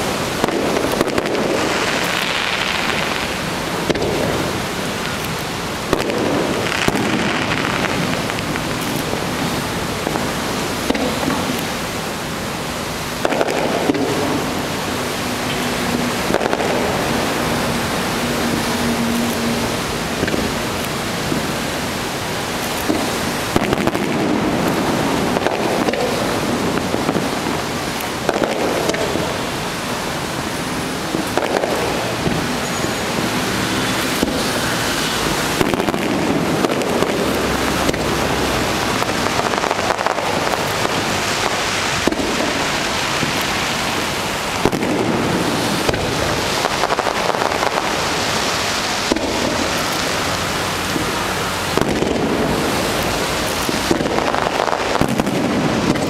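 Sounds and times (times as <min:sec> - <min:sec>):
fireworks bangs: 0:00.0 - 0:56.0
fireworks hiss and crackle: 0:00.0 - 0:56.0.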